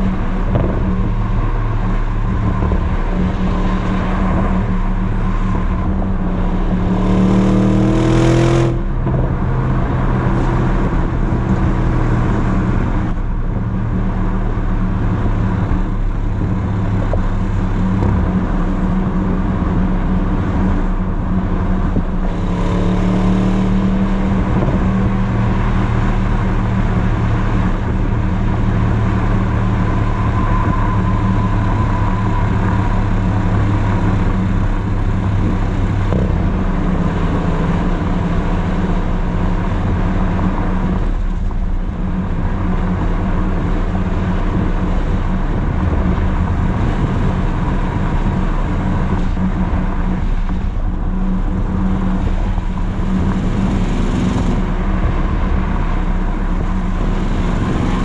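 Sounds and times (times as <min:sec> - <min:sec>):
car exhaust at highway speed: 0:00.0 - 0:58.0
road noise: 0:00.0 - 0:58.0.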